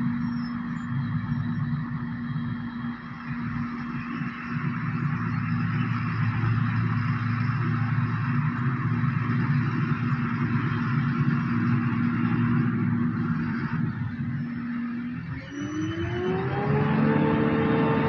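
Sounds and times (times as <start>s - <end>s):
constant hum: 0.0s - 18.0s
loud engine drone: 0.0s - 18.0s.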